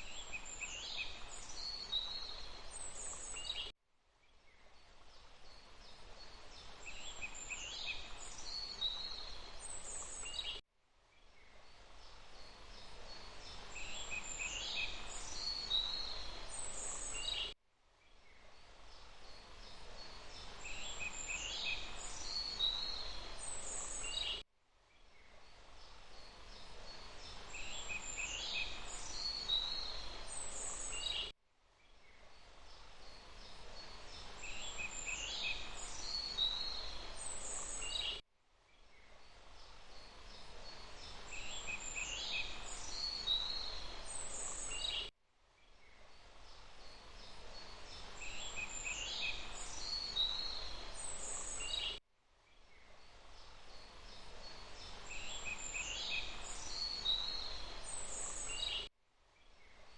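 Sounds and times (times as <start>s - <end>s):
running water hiss: 0.0s - 3.7s, 4.8s - 10.6s, 11.6s - 17.5s, 18.6s - 24.4s, 25.5s - 31.3s, 32.3s - 38.2s, 39.3s - 45.0s, 46.1s - 52.0s, 53.0s - 58.9s
songbird chirps and trills: 0.0s - 59.9s.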